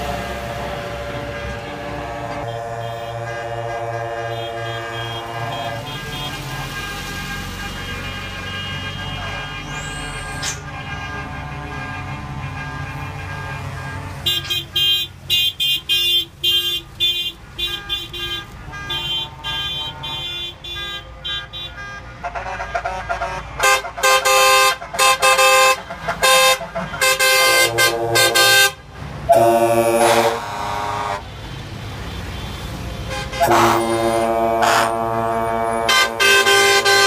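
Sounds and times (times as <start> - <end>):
bus horns honking: 0.0 - 37.0
low rumble of bus engines: 0.0 - 37.0.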